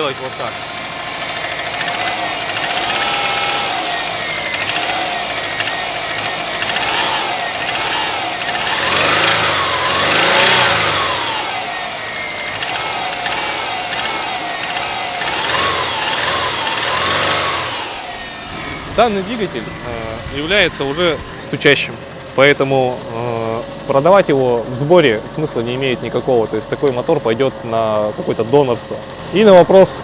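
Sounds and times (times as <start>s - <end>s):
car engine revving: 0.0s - 30.0s
engine knocking: 0.0s - 30.0s.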